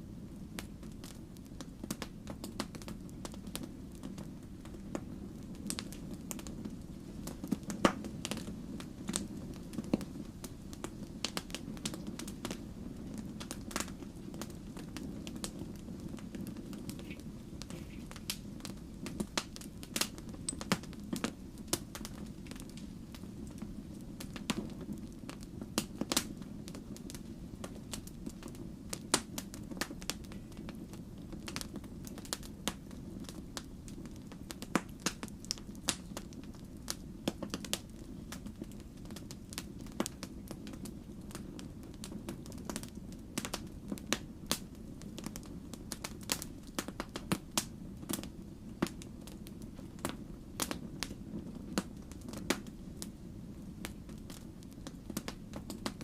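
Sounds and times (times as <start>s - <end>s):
log fire crackling and popping: 0.0s - 56.0s.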